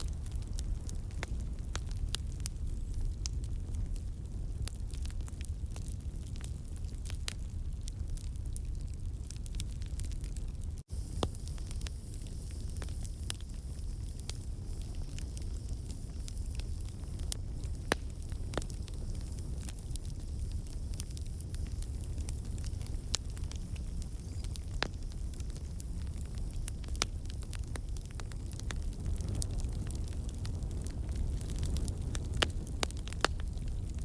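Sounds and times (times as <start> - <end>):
logs popping and crackling: 0.0 - 34.0
low rumble of flames: 0.0 - 34.0.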